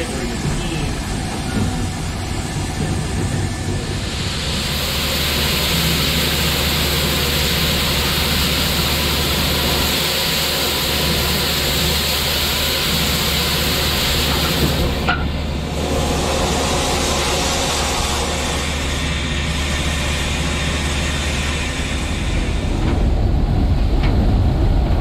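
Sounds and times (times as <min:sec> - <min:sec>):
loud steady steam hiss: 0:00.0 - 0:25.0.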